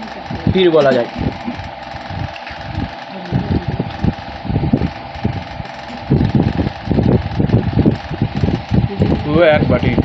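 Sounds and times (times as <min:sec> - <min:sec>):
electric fan motor hum: 0:00.0 - 0:10.0
air gusting on microphone: 0:00.2 - 0:10.0.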